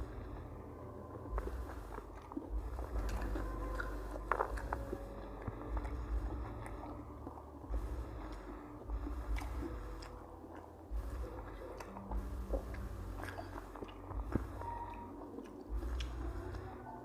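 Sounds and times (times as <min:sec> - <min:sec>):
person chewing food: 0:00.0 - 0:17.0
wet mouth clicks: 0:01.3 - 0:16.9.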